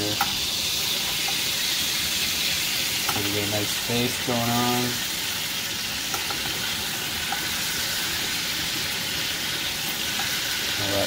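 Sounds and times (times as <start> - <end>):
pan juices sizzling: 0.0 - 11.0.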